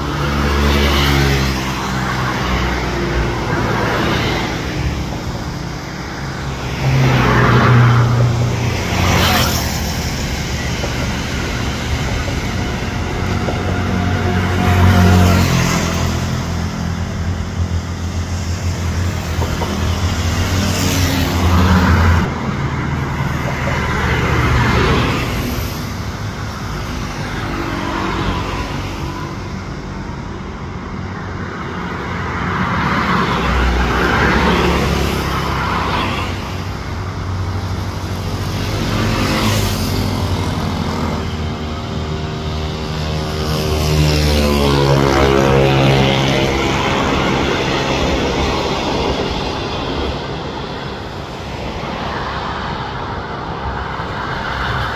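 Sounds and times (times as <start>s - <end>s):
cars and motorbikes whooshing past: 0.0s - 54.9s.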